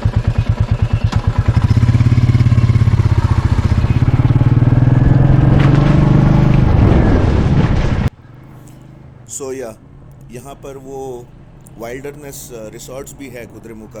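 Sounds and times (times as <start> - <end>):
motorcycle engine thumping: 0.0 - 13.2.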